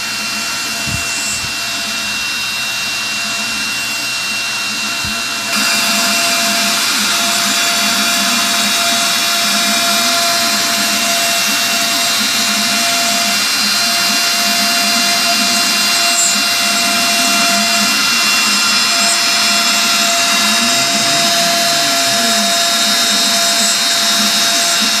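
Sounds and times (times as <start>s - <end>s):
milling spindle whine: 0.0s - 25.0s.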